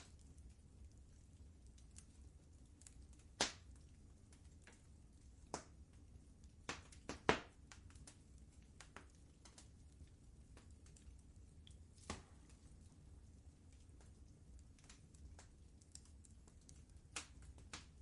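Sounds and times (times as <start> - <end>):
low fire rumble: 0.0 - 18.0
wood fire popping and snapping: 0.0 - 18.0.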